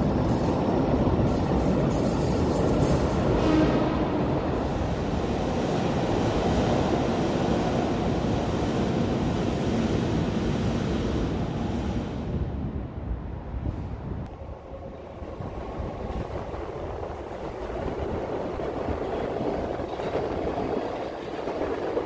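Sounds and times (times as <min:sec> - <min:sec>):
electric trains passing: 0:00.0 - 0:22.0.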